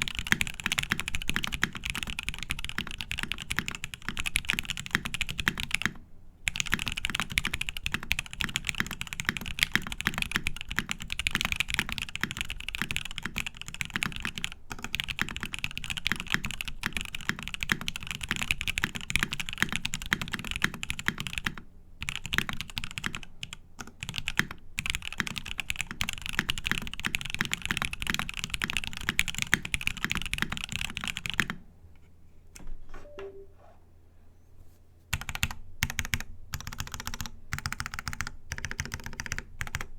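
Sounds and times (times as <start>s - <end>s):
fast typing on mechanical keyboard: 0.0s - 31.6s, 35.1s - 39.9s.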